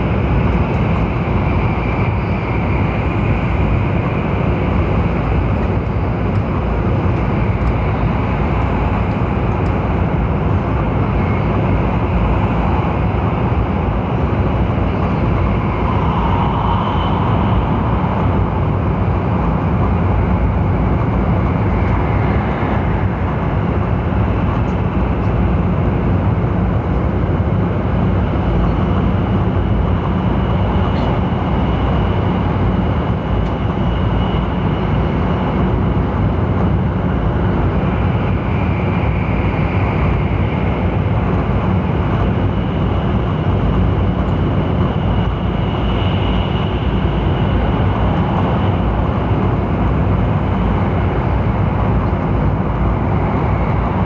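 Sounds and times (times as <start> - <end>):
faint high whine: 0.0 - 54.0
train running rumble: 0.0 - 54.0.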